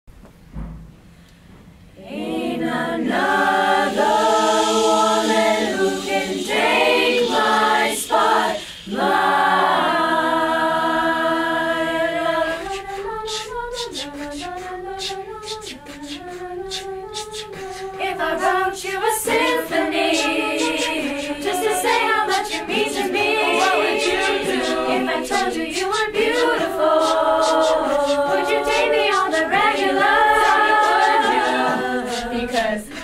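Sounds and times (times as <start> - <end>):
girls' choir singing chords: 2.0 - 33.0
beatboxed vocal percussion: 3.0 - 10.0, 12.1 - 33.0.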